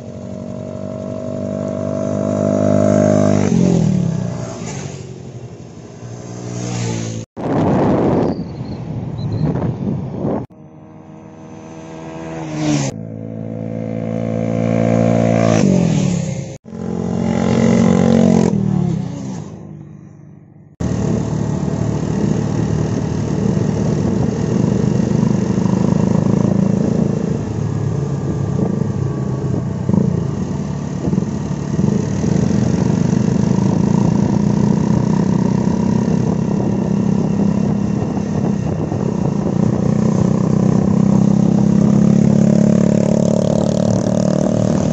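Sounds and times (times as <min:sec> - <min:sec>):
motorcycles accelerating: 0:00.0 - 0:08.4, 0:09.5 - 0:19.8, 0:20.8 - 0:44.9
motorcycle engines cruising: 0:00.0 - 0:19.9, 0:20.8 - 0:44.9.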